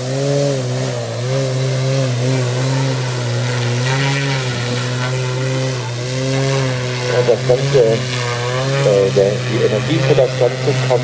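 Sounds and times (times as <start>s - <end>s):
model aircraft propeller drone: 0.0s - 11.0s.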